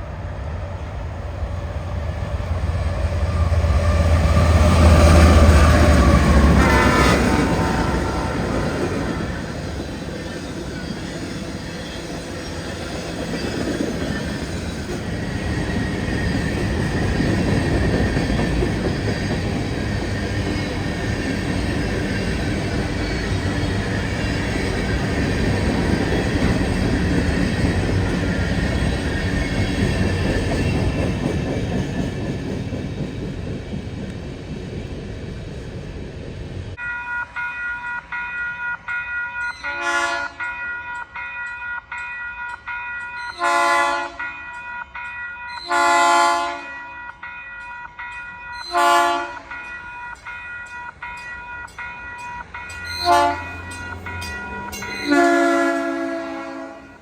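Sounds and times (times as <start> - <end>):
train wheels rumbling on rails: 0.0 - 36.8, 41.9 - 57.0.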